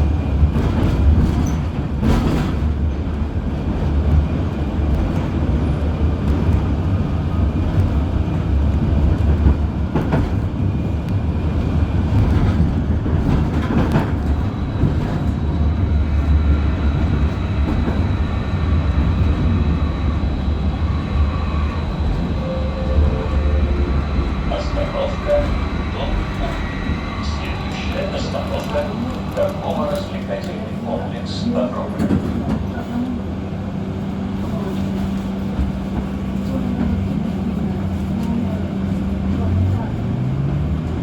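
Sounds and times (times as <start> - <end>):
tram rumbling along track: 0.0 - 41.0.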